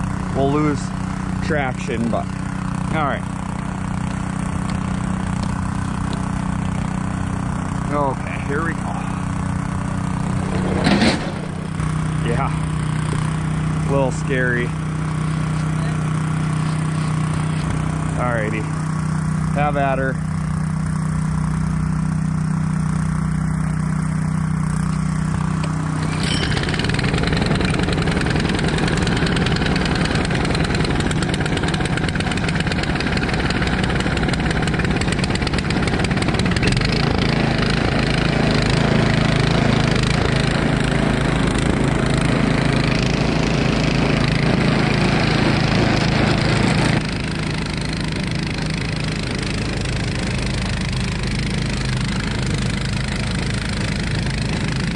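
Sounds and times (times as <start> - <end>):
snowblower engine running: 0.0 - 54.9.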